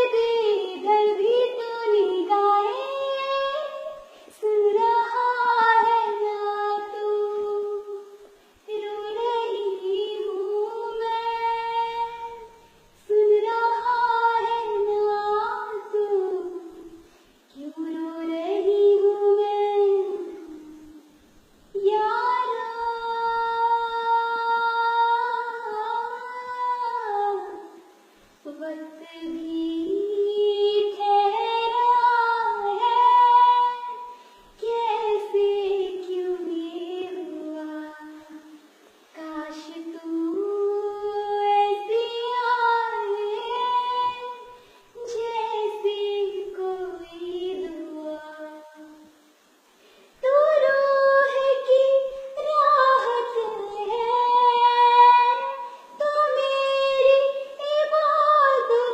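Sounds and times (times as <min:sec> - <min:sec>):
person singing unaccompanied: 0:00.0 - 0:49.2, 0:50.2 - 0:58.9.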